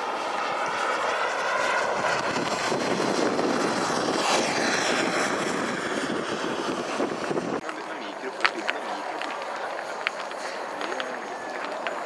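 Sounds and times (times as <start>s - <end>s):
model jet turbine whining: 0.0s - 12.0s.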